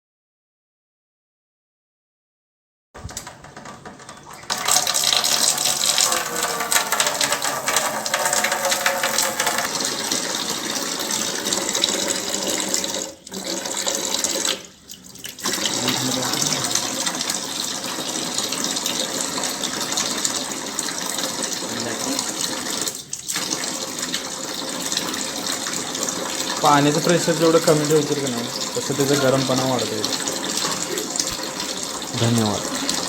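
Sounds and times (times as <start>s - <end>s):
water running from a tap: 4.2s - 33.0s.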